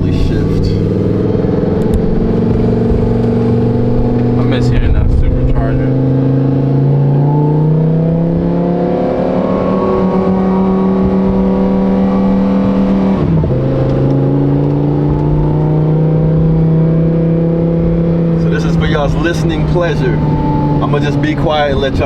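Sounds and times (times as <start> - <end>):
gear upshift: 0.0 - 22.0
sports car engine accelerating: 0.0 - 22.0.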